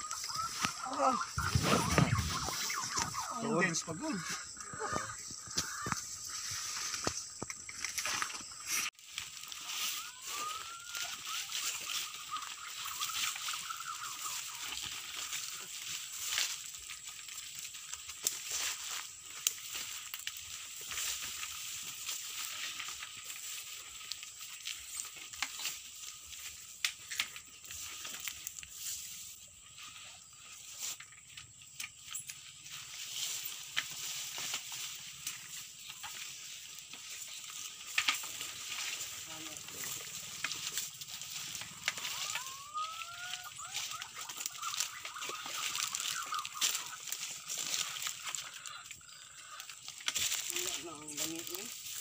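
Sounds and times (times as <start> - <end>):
footsteps through undergrowth: 0.0 - 52.0
high-pitched insect chorus: 0.0 - 52.0
leaves rustling: 0.0 - 52.0
twigs cracking: 0.0 - 52.0.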